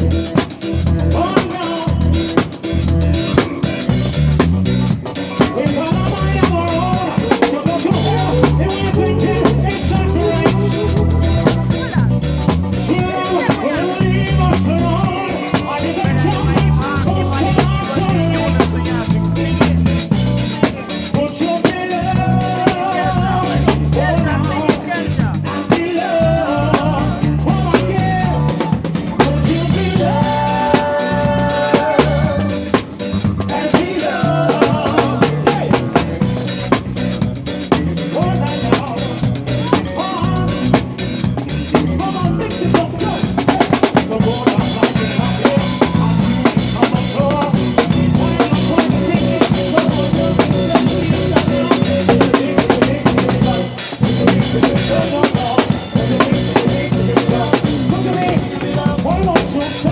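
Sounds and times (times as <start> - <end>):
bass line: 0.0 - 59.9
drum kit playing: 0.0 - 59.9
melody instruments: 0.0 - 59.9.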